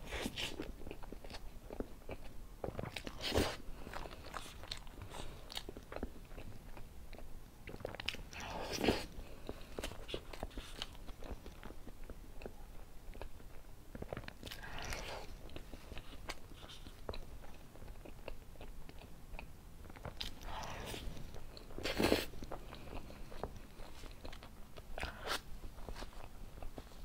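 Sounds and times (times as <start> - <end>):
person chewing with mouth smacks: 0.1 - 27.0.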